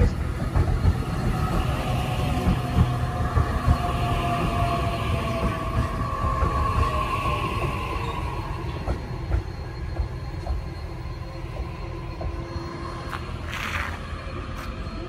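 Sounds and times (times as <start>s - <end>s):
electric train whine: 0.0s - 15.0s
wheels rumbling on rail: 0.0s - 15.0s.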